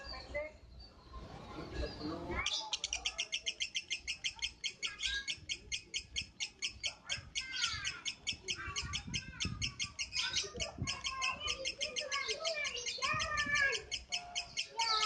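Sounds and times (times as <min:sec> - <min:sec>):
bird rapid high chirps: 0:00.0 - 0:15.0.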